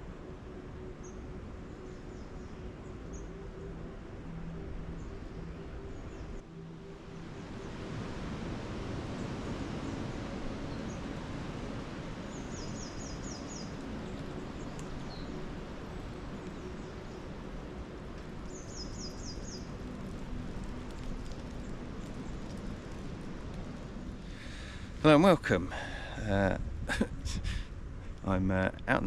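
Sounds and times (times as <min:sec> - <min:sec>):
wind through trees: 0:00.0 - 0:29.0.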